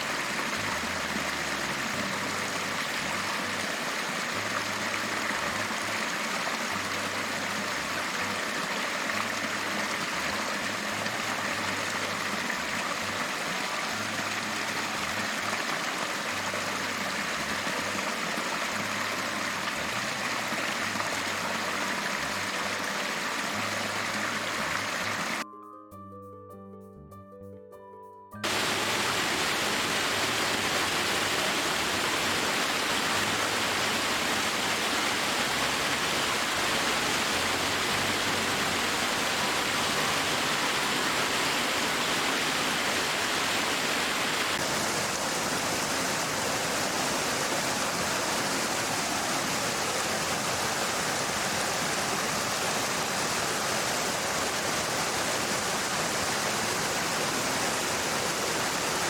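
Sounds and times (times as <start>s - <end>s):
water rushing over rocks: 0.0s - 25.4s, 28.4s - 59.0s.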